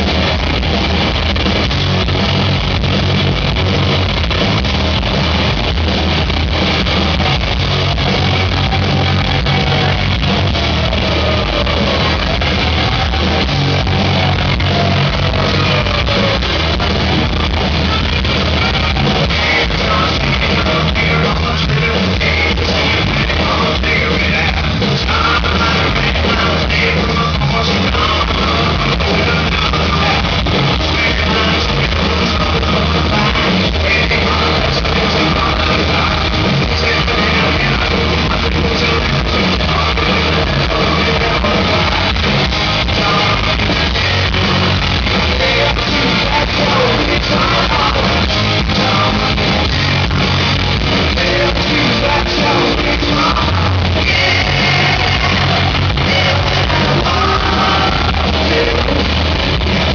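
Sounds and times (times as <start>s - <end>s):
distorted electric guitars: 0.0s - 59.9s
drums: 0.0s - 59.9s
man singing: 7.0s - 59.9s.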